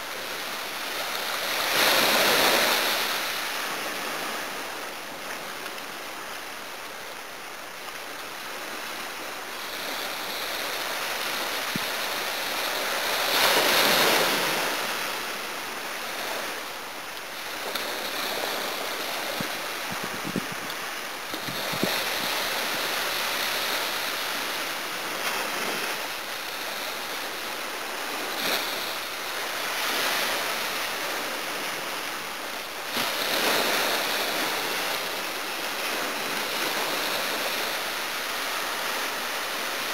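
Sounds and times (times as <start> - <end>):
sea waves washing up beach: 0.0 - 39.9.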